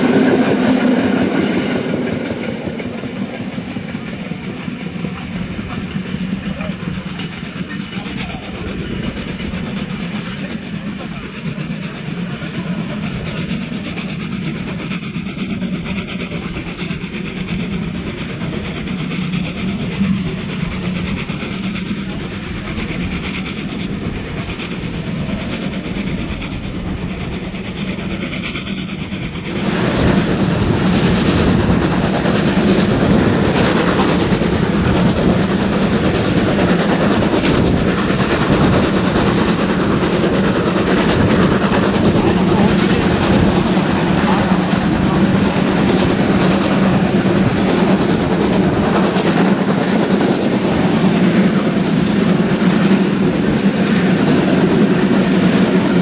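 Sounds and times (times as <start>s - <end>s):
steam train running: 0.0s - 56.0s.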